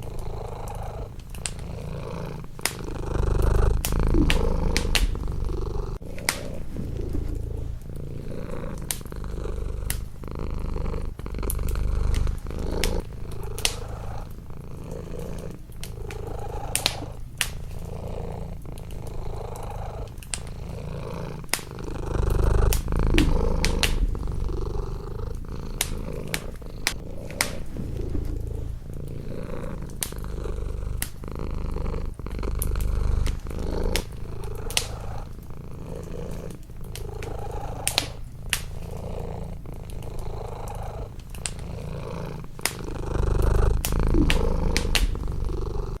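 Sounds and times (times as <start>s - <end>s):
cat purring: 0.0s - 46.0s
wood fire crackling: 0.0s - 46.0s.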